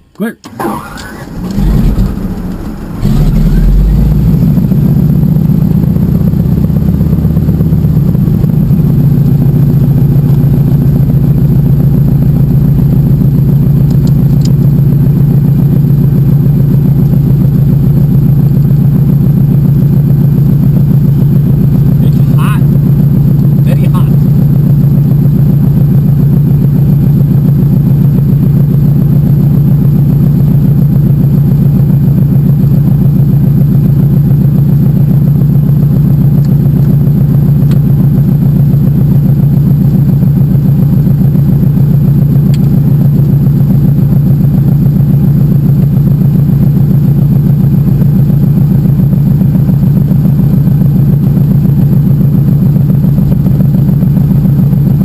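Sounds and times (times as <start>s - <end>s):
floatplane radial engine running: 0.5s - 55.0s.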